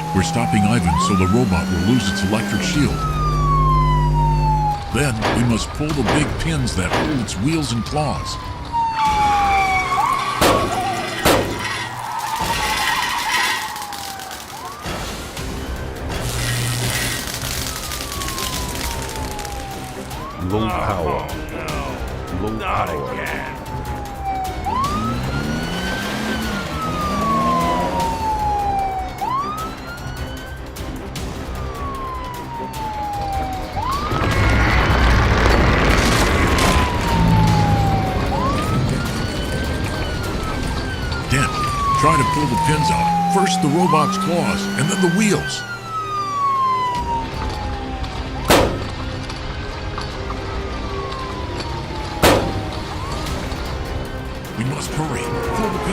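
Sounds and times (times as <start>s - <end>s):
police siren wailing: 0.0s - 55.9s.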